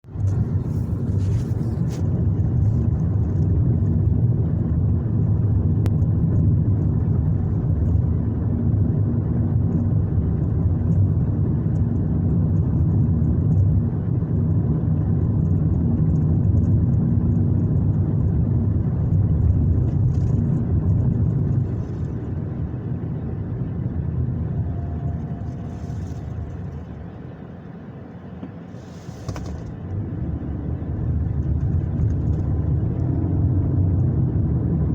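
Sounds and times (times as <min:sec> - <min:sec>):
car rumbling inside cabin: 0:00.0 - 0:34.9.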